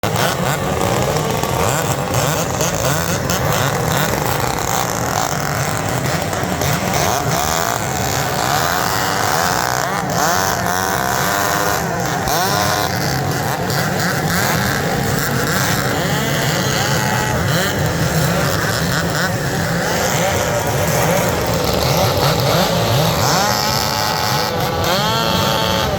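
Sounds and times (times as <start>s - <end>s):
chainsaw engines revving: 0.0s - 25.9s.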